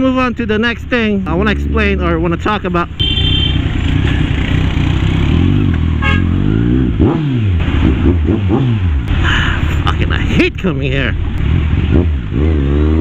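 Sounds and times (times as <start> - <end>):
traffic noise: 0.0 - 13.0
motorcycle engine revving: 1.3 - 10.1, 10.9 - 13.0.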